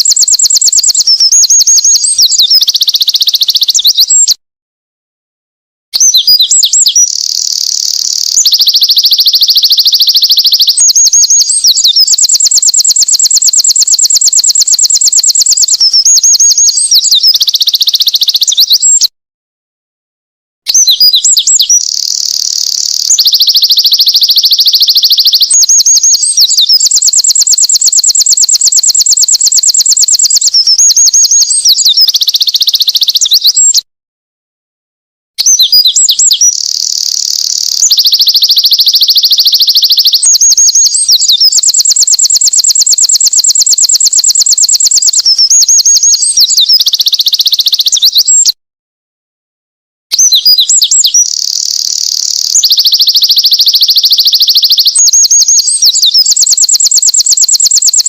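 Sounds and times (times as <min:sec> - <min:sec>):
bird singing trills and warbles: 0:00.0 - 0:04.4, 0:06.0 - 0:19.1, 0:20.7 - 0:33.8, 0:35.4 - 0:48.5, 0:50.1 - 0:58.0.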